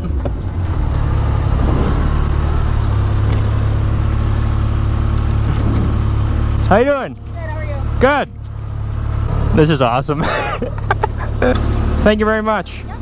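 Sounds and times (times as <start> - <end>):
race car engine idling: 0.0 - 13.0.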